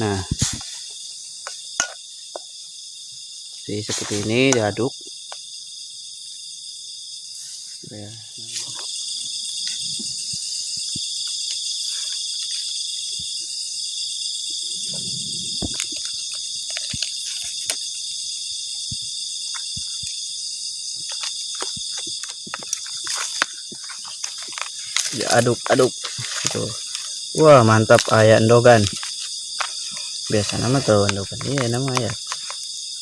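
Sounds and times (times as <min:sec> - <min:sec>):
forest insects chorus: 0:00.0 - 0:33.0.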